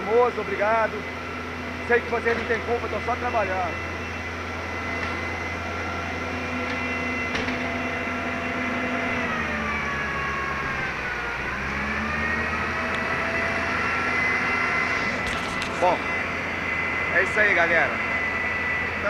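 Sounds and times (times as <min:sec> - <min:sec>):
truck engine and machinery whining: 0:00.0 - 0:19.0.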